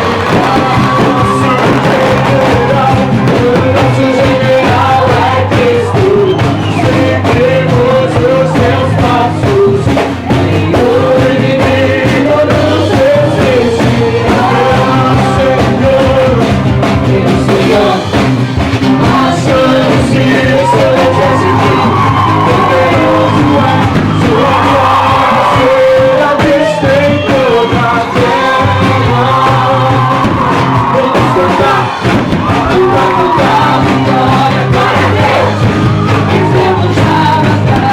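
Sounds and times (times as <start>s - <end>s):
group of people singing: 0.0s - 37.9s
musical accompaniment: 0.0s - 37.9s
people shouting: 0.0s - 37.9s.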